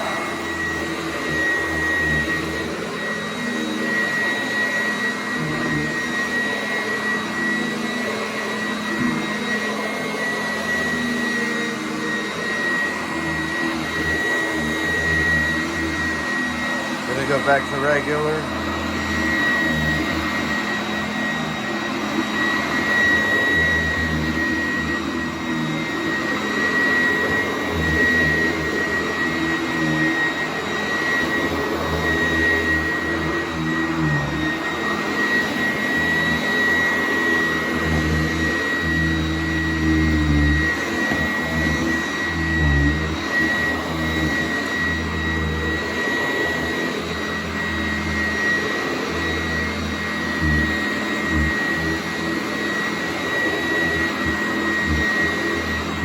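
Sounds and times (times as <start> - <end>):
upright vacuum cleaner running: 0.0 - 56.0.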